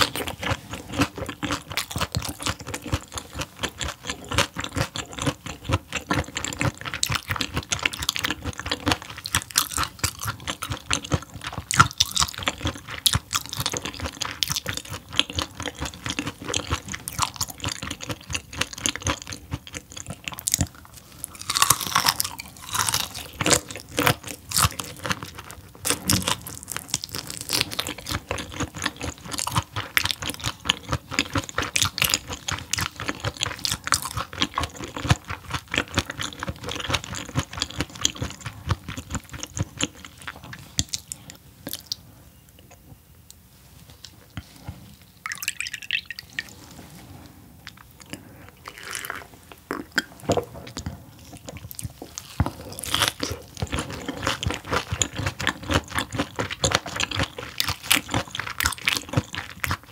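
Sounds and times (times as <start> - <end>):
crunchy chewing: 0.0 - 42.8, 47.6 - 59.9.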